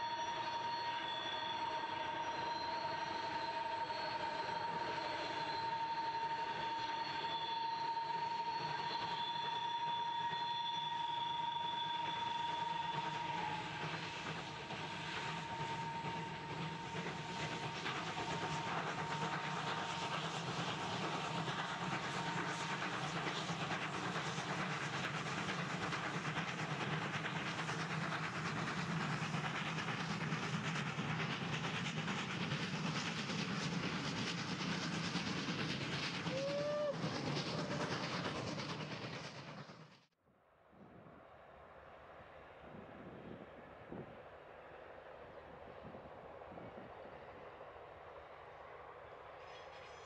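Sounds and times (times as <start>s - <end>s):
steam locomotive exhaust: 0.0s - 40.1s.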